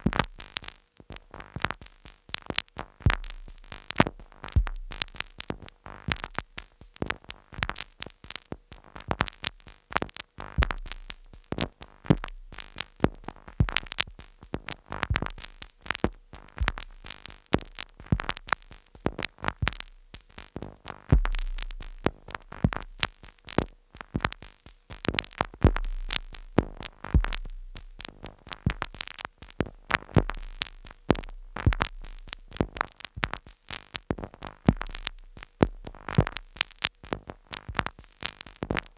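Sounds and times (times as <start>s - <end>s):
glitchy electronic clicks and noise: 7.0s - 38.9s.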